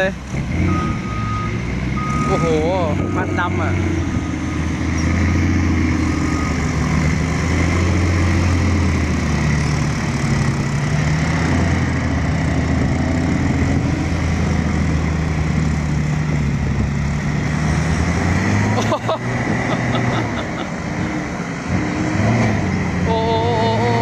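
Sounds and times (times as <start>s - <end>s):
heavy diesel truck engine running: 0.0s - 24.0s.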